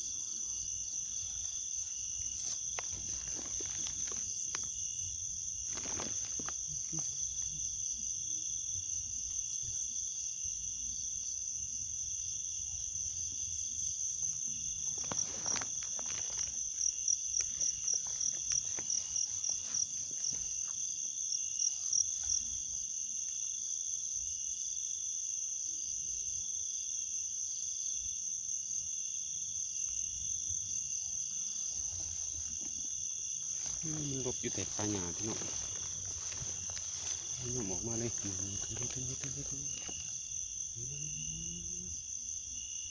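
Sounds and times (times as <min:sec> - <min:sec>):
crickets trilling: 0:00.0 - 0:42.9
pulsing insect chirp: 0:00.0 - 0:42.9.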